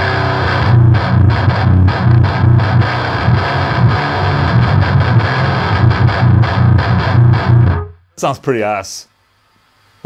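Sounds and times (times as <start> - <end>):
distorted electric guitar riff: 0.0 - 8.1.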